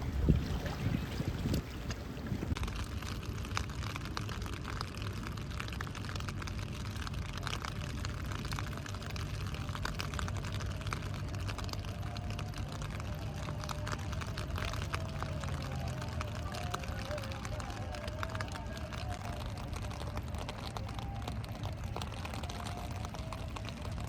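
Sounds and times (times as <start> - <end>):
rain pattering: 0.0 - 24.0.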